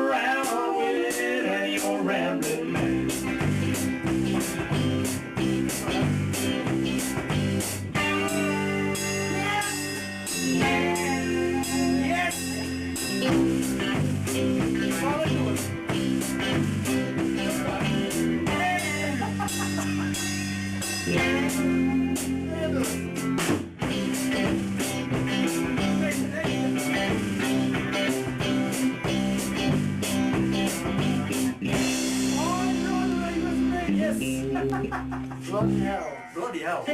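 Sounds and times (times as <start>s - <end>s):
live band playing blues rock: 2.4s - 36.0s
electric guitar lead with bends: 2.7s - 36.1s.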